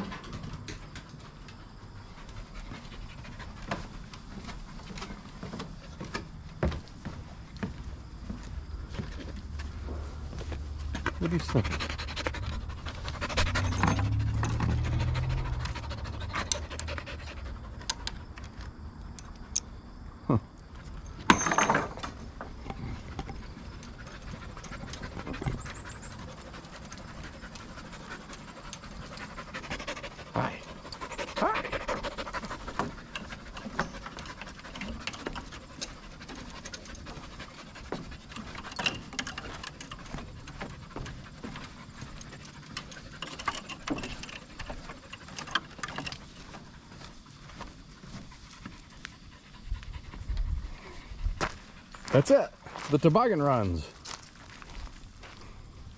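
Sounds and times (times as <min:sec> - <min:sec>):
puppy panting: 0:00.0 - 0:06.2, 0:09.0 - 0:18.5, 0:22.8 - 0:52.1.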